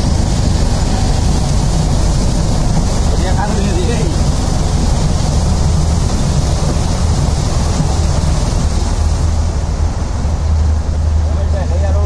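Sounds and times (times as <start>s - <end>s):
heavy rain on vehicle roof: 0.0s - 12.0s
low vehicle rumble: 0.0s - 12.0s.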